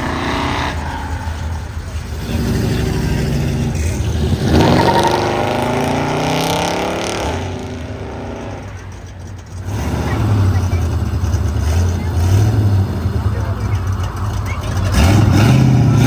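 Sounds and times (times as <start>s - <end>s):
car accelerating hard: 0.0s - 16.0s
engine idling low rumble: 0.0s - 16.0s.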